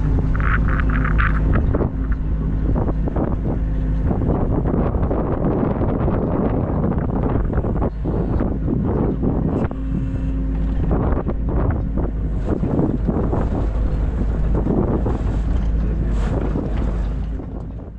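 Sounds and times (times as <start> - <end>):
low machine rumble: 0.0 - 17.9
wind buffeting microphone: 0.0 - 17.9.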